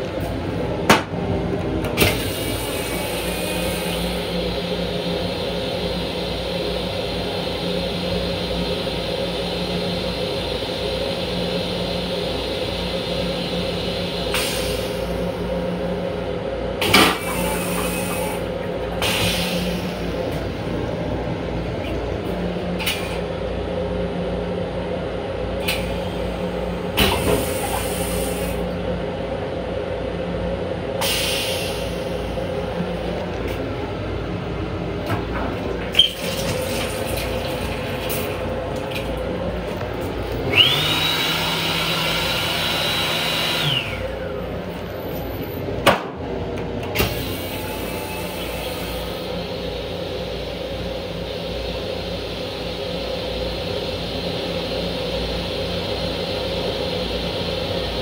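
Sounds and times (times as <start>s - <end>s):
railcar hum and rumble: 0.0s - 58.0s.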